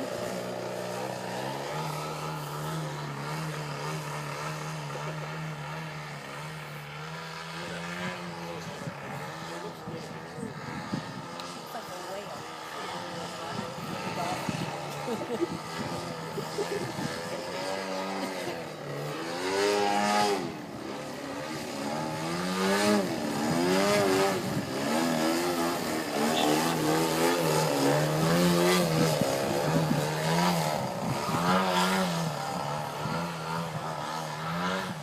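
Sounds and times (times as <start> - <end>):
model airplane engine: 0.0 - 35.0.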